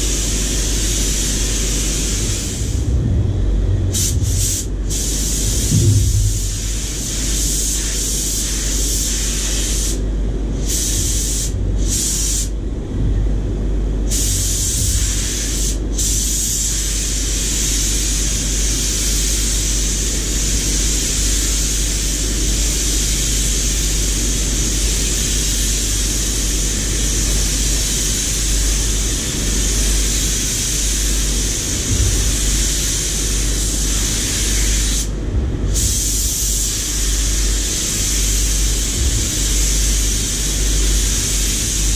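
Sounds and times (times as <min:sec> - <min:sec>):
paint spray gun hissing: 0:00.0 - 0:02.8, 0:03.9 - 0:10.0, 0:10.6 - 0:12.5, 0:14.1 - 0:35.1, 0:35.7 - 0:41.9
steady low rumble: 0:00.0 - 0:41.9.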